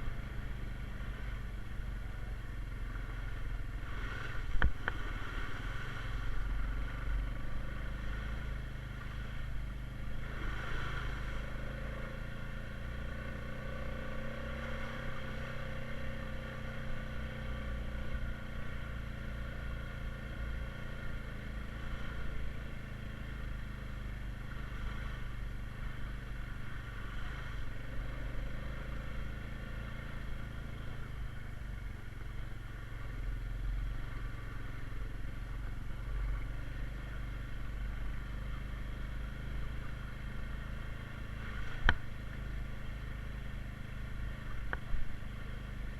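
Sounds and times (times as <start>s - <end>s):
atv engine running: 0.0s - 45.9s
ride rumble: 0.0s - 45.9s.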